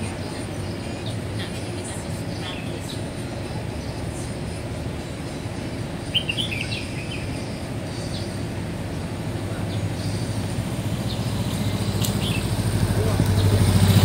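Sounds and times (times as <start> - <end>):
low traffic rumble: 0.0 - 14.0
vehicle approaching: 0.0 - 14.0
bird chirping: 2.2 - 14.0.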